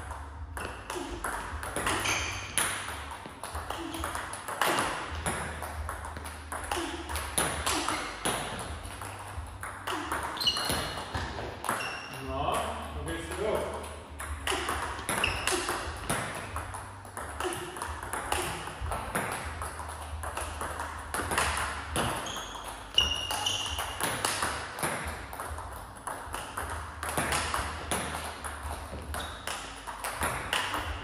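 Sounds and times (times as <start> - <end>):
table tennis balls clicking: 0.0 - 31.0.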